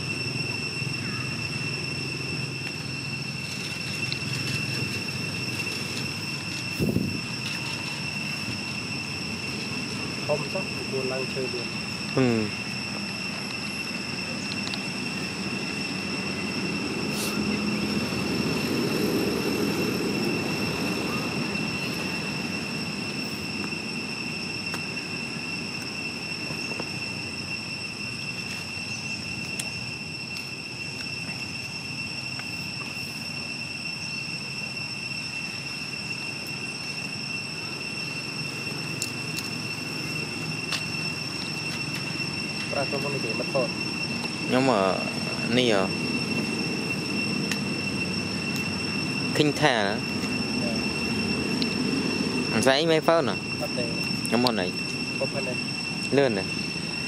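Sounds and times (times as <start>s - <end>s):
high-pitched whine: 0.0s - 57.0s.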